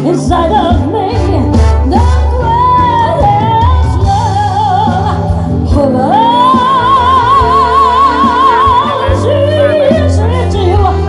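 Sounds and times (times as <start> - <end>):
instrumental accompaniment: 0.0 - 11.0
woman singing a ballad: 0.0 - 11.0.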